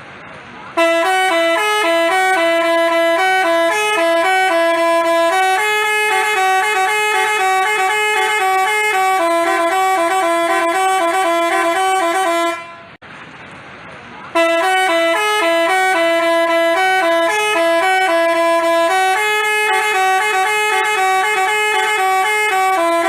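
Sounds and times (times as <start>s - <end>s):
bus horn playing melody: 0.7s - 13.0s, 14.3s - 23.0s.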